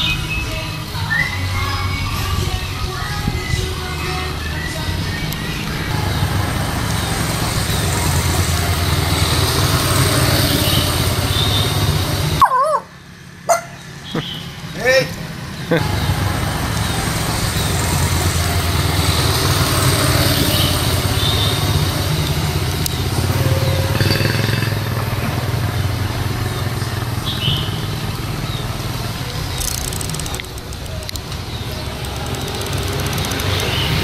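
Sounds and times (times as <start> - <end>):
motorbike engines rumbling: 0.0 - 34.0.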